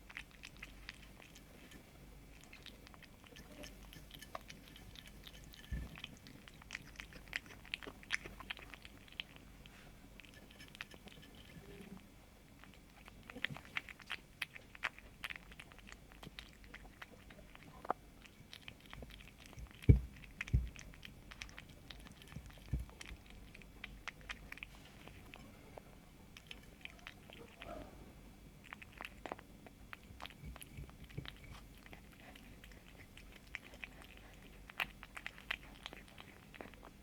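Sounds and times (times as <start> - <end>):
kitten chewing food: 0.0 - 37.0.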